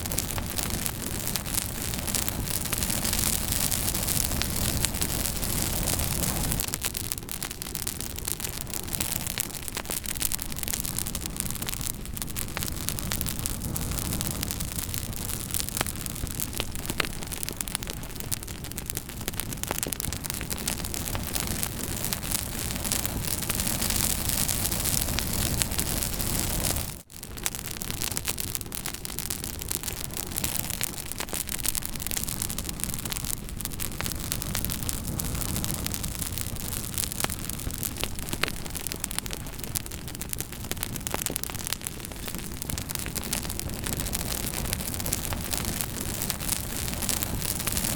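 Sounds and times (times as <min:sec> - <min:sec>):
campfire hissing: 0:00.0 - 0:47.9
wood crackling and popping: 0:00.0 - 0:47.9.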